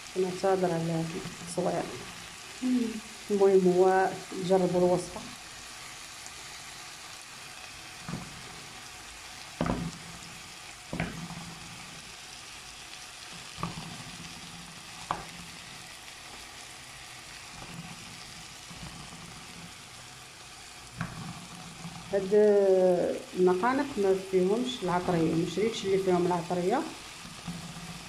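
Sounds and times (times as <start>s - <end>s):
sausages sizzling in a frying pan: 0.0s - 28.0s.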